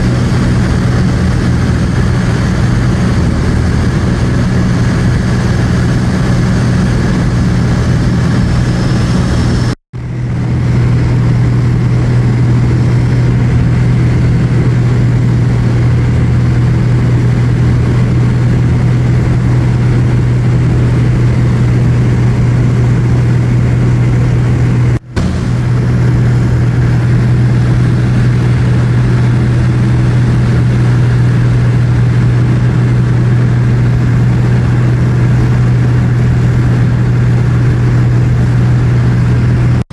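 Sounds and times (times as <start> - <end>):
aircraft engine droning in cabin: 0.0 - 39.9.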